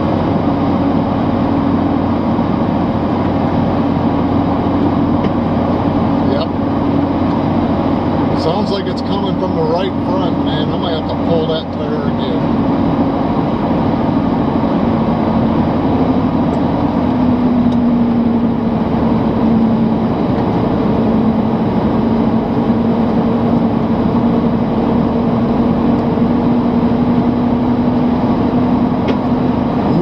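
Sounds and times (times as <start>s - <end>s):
car engine running: 0.0s - 30.0s
low wavering hum: 0.0s - 30.0s.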